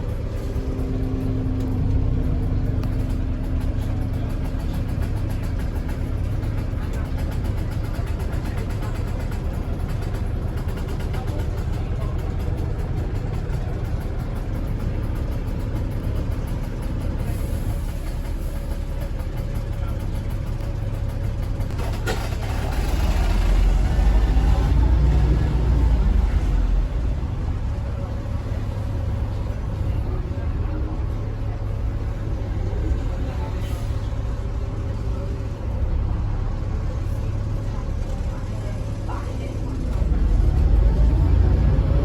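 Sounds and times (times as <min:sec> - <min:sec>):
bus engine running: 0:00.0 - 0:42.0.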